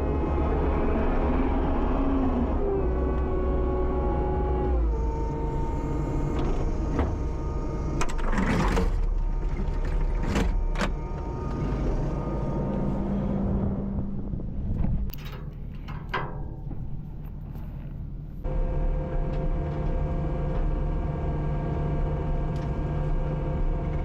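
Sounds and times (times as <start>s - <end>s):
diesel engine running with whine: 0.0s - 16.0s, 16.6s - 24.0s.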